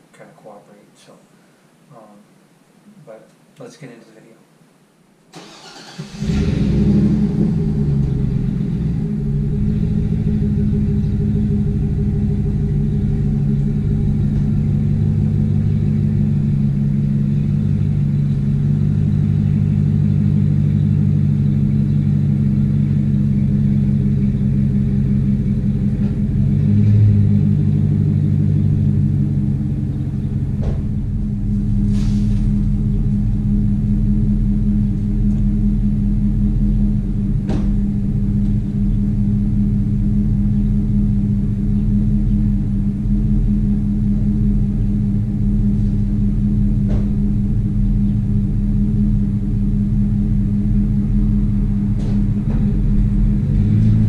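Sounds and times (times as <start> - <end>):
truck engine idling: 5.4 - 54.0.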